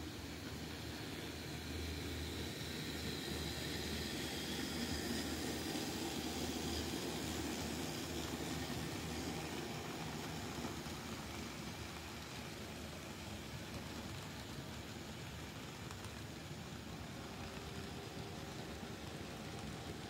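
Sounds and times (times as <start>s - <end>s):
model train motor hum: 0.0s - 20.0s.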